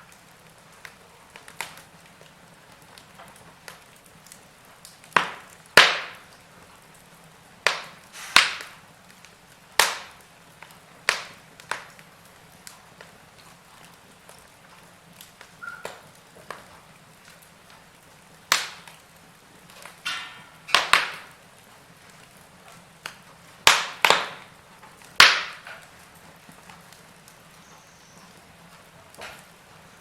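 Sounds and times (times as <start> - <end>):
burning wood snapping and popping: 0.0 - 30.0
wood fire crackling: 0.0 - 30.0.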